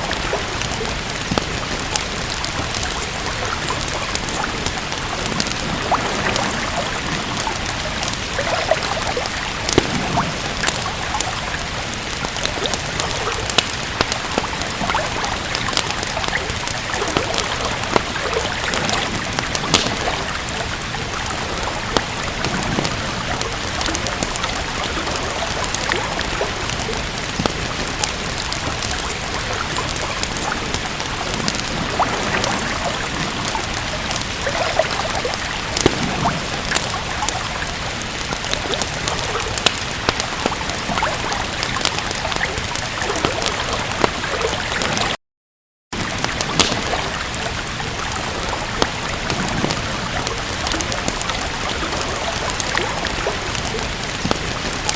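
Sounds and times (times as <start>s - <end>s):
steady rain hiss: 0.0s - 45.2s, 46.0s - 54.9s
wood fire crackling: 0.0s - 45.2s, 46.0s - 54.9s.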